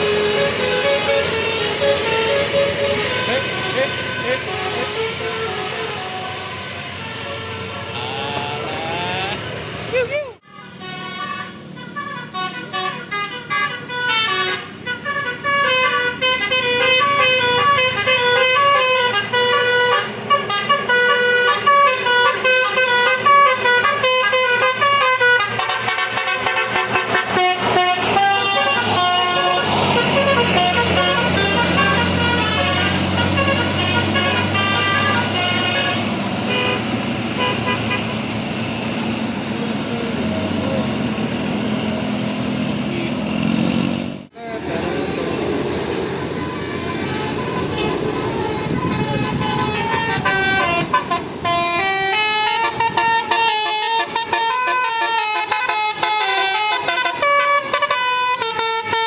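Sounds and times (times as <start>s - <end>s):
multi-tone bus horn melody: 0.0s - 38.5s, 42.8s - 59.0s
bus engine running: 0.0s - 59.0s
road noise: 0.0s - 59.0s.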